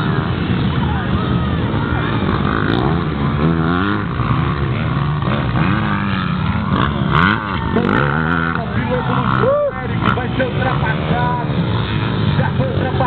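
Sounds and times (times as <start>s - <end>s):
loud outdoor noise: 0.0s - 13.0s
motor engines revving: 0.0s - 13.0s.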